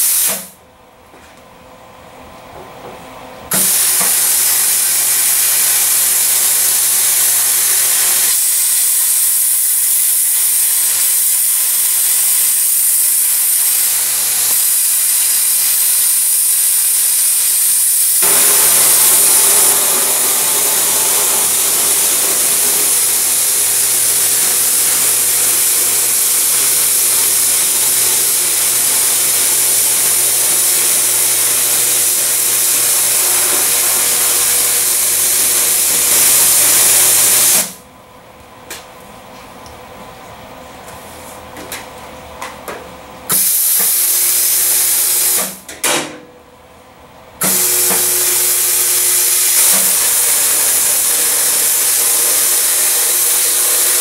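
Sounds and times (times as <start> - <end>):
plasma cutter hissing: 0.0 - 0.6, 3.5 - 37.8, 43.3 - 45.6, 47.4 - 54.0.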